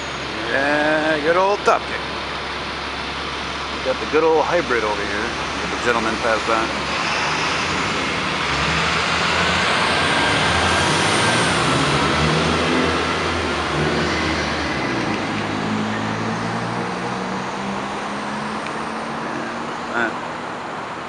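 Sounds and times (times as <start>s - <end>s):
bus accelerating: 0.0s - 21.0s
traffic noise: 0.0s - 21.0s
truck driving past: 2.7s - 20.0s.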